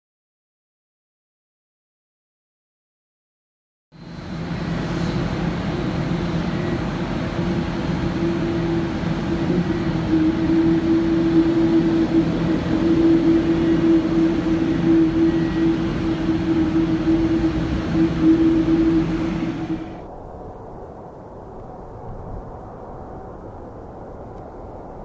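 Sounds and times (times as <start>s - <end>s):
jet engines idling: 4.0s - 25.0s.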